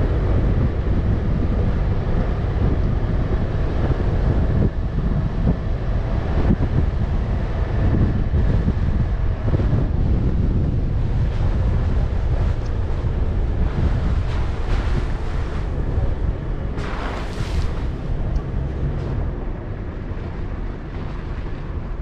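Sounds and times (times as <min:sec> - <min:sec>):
engine and road rumble: 0:00.0 - 0:22.0
wind buffeting microphone: 0:00.0 - 0:22.0.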